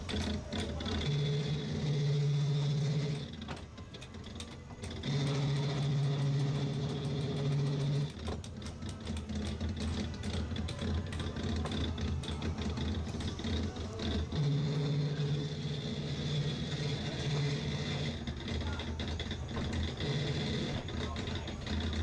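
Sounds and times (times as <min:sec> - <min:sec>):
low machine hum: 0:00.0 - 0:22.0
rapid clicking: 0:00.0 - 0:22.0.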